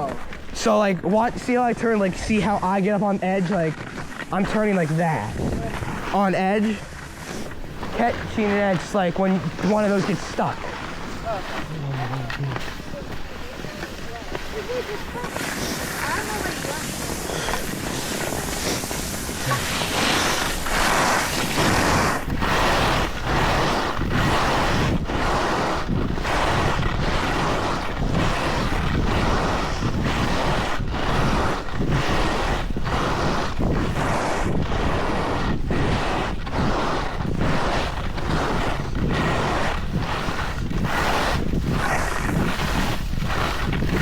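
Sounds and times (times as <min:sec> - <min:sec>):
skis scraping over hard snow: 0:00.0 - 0:44.0
wind rushing over microphone: 0:04.3 - 0:44.0.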